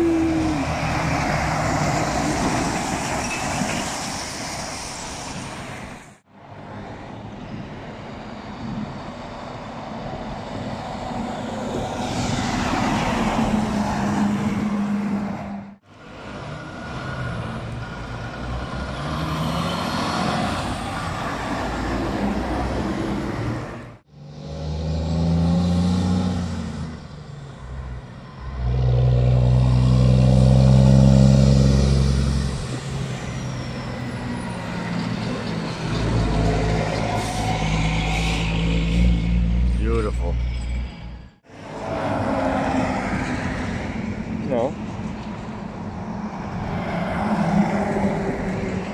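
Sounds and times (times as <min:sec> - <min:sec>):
dump truck diesel engines: 0:00.0 - 0:48.9
tyre and road noise: 0:00.0 - 0:48.9.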